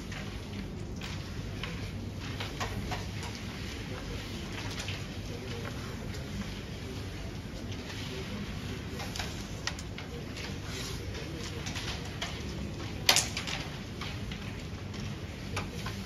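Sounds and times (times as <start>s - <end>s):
low hall hum: 0.0s - 16.0s.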